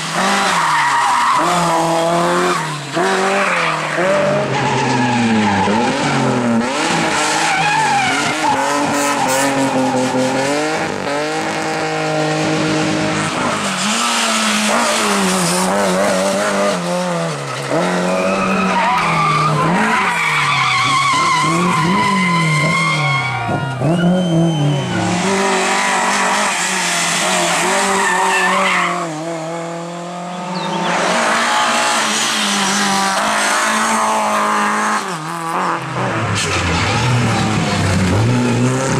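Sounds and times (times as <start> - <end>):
tyres squealing and skidding: 0.0 - 11.2, 13.1 - 29.4, 30.3 - 38.9
rally car engine at high revs: 0.0 - 38.9.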